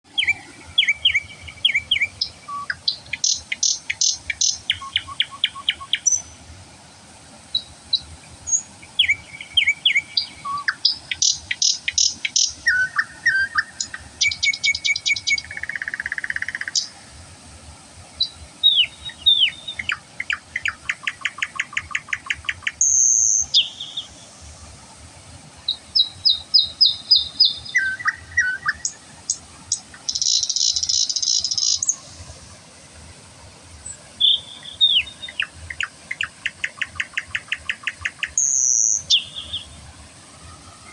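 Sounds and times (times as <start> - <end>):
songbirds singing: 0.1 - 17.1, 18.0 - 24.4, 25.6 - 32.4, 33.7 - 40.0.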